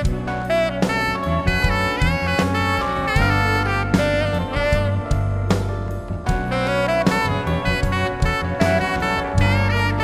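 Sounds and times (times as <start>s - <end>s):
funk band playing: 0.0s - 10.0s
horn melody: 0.0s - 10.0s.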